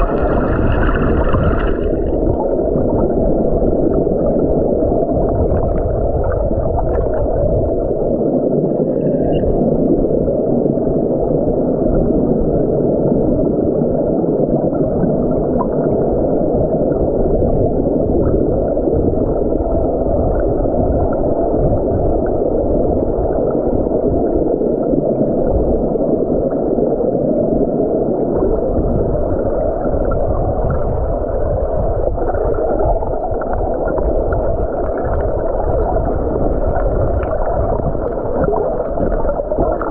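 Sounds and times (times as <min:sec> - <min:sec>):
muffled underwater river rushing: 0:00.0 - 0:39.9.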